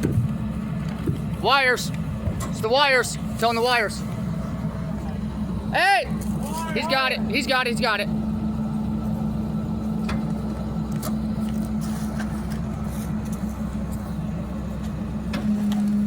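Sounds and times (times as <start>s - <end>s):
garbage truck humming: 0.0s - 16.0s.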